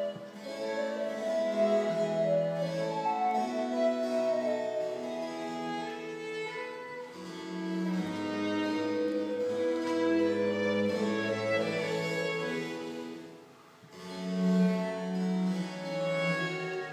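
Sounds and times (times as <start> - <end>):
cello: 0.0 - 16.9
violin: 0.0 - 16.9.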